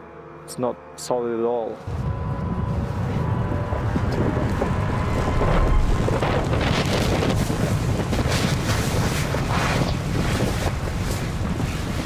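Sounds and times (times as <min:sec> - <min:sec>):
wind buffeting microphone: 0:01.8 - 0:12.0.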